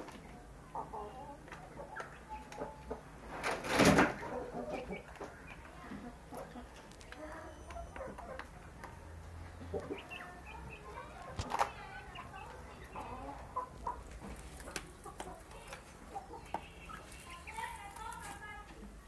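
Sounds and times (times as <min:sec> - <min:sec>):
young chickens clucking: 0:00.0 - 0:19.0.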